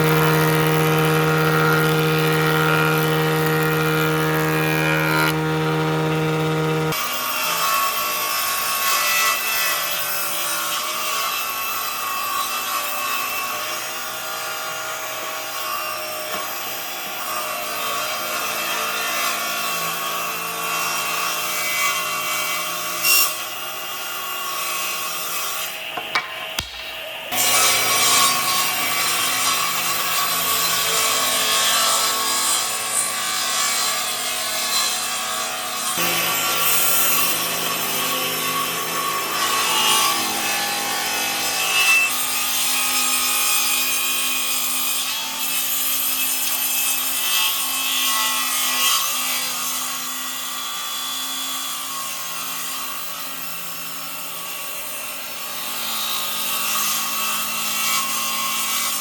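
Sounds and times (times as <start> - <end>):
power tool grinding wood: 0.0 - 59.0.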